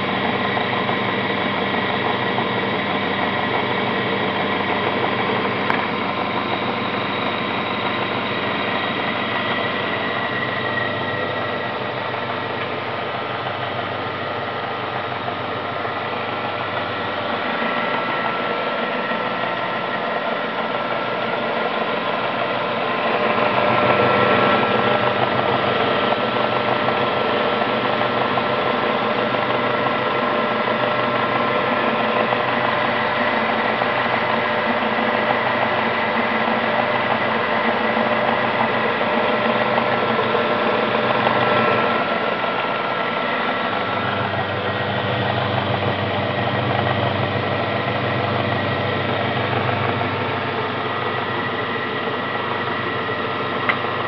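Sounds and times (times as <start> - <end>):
wood lathe whirring: 0.0 - 54.0.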